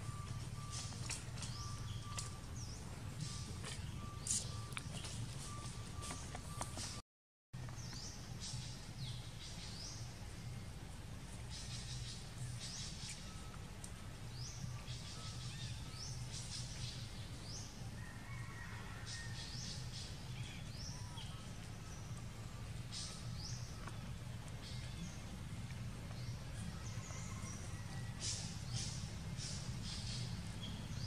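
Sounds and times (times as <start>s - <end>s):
steady low hum: 0.0s - 7.0s, 7.6s - 18.2s, 18.8s - 31.0s.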